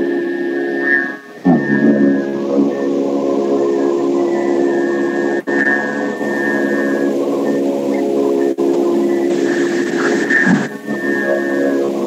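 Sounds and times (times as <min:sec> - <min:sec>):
man singing a long steady tone: 0:00.0 - 0:12.0.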